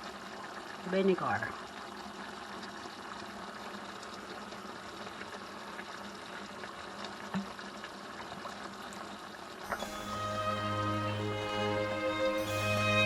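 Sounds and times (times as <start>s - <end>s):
pot simmering and bubbling: 0.0s - 13.0s.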